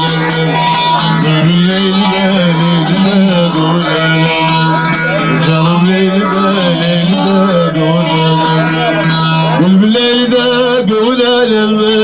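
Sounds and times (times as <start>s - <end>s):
long-necked lute playing: 0.0s - 12.0s
person singing: 0.0s - 12.0s.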